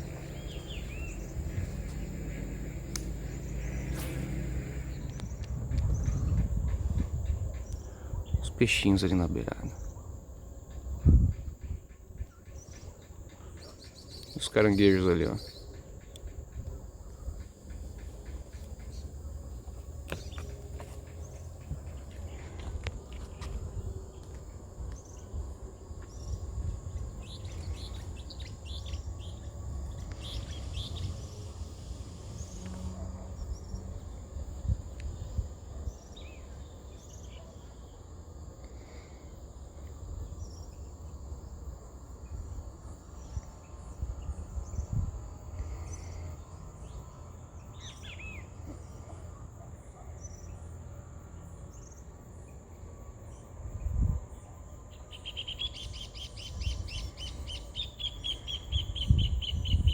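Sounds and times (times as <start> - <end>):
constant low rumble: 0.0 - 59.9
high insect drone: 0.0 - 59.9.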